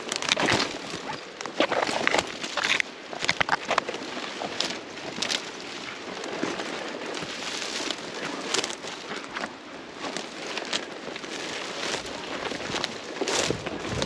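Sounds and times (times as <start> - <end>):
twigs and brush crackling: 0.0 - 14.0.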